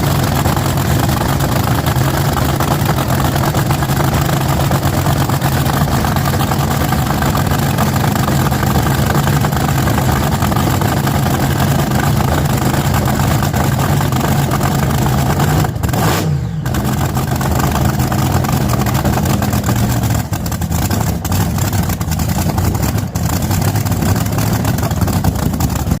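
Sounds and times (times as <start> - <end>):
drag car engine idling loudly: 0.0 - 26.0.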